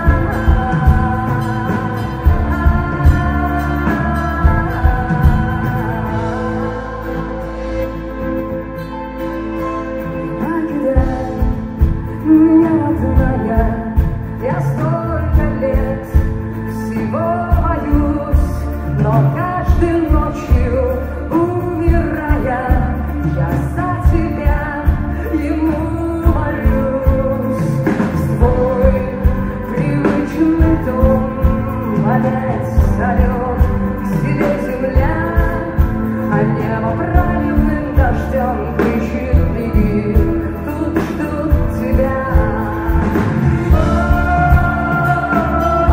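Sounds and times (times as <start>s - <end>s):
live rock band: 0.0s - 45.9s
woman singing: 0.0s - 45.9s.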